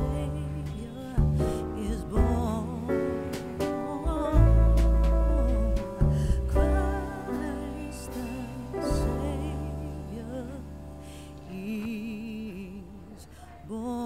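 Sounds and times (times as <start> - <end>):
soft slow background music: 0.0 - 14.0.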